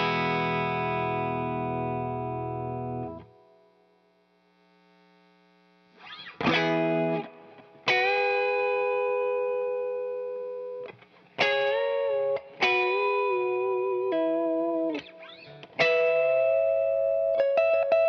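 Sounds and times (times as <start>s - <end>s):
electric guitar notes: 0.0s - 4.0s, 6.0s - 18.0s.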